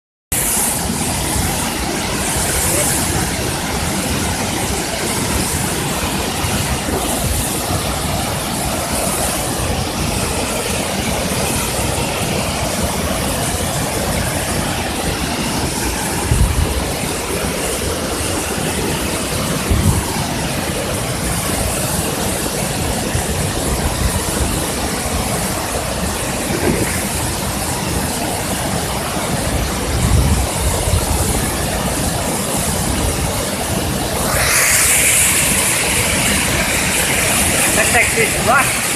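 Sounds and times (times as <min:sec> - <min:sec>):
waterfall rushing: 0:00.3 - 0:38.9.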